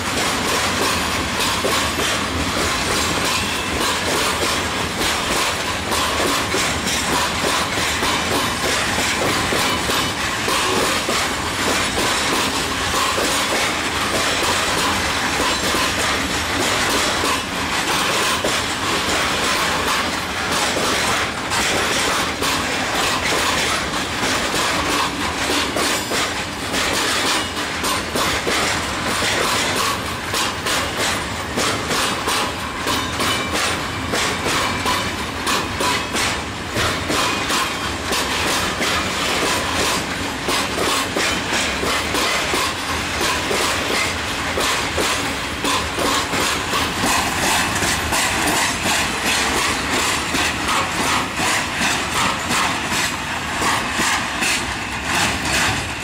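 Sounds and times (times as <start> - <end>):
wheels clattering over rail joints: 0.0 - 56.0.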